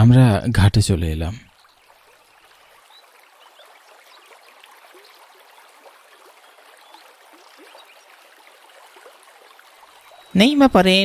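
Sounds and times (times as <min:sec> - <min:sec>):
flowing river water: 0:01.4 - 0:11.0.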